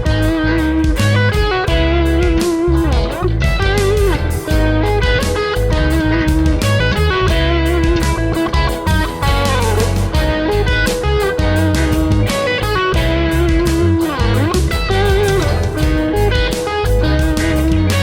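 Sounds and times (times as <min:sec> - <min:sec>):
electric guitar music with beat: 0:00.0 - 0:18.0.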